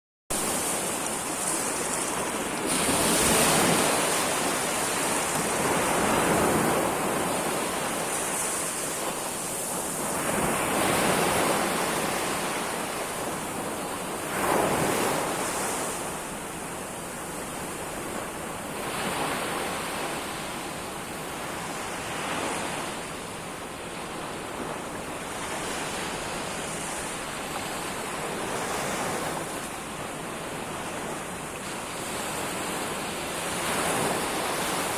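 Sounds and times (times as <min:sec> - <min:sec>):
ocean waves breaking on shore: 0:00.3 - 0:34.9.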